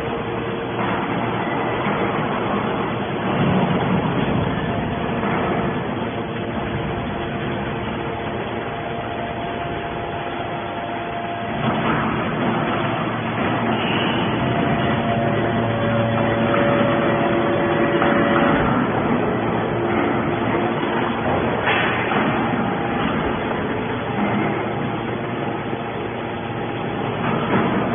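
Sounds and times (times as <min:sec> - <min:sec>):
hydraulic baler humming: 0:00.0 - 0:27.9.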